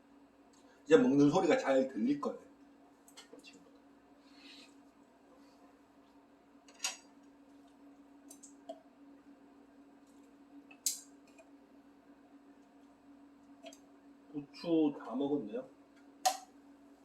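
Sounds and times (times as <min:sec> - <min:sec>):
cooktop and range hood fan hum: 0:00.0 - 0:17.0.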